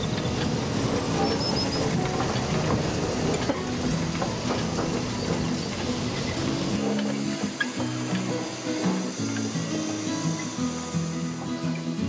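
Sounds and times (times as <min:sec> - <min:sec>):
wheels clickety-clack: 0:00.0 - 0:10.8
steam locomotive rumbling: 0:00.0 - 0:12.0.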